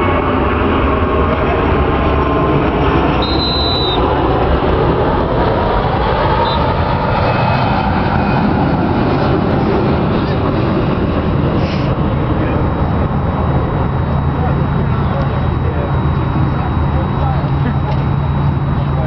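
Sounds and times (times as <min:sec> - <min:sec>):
loud rumbling noise: 0:00.0 - 0:19.0.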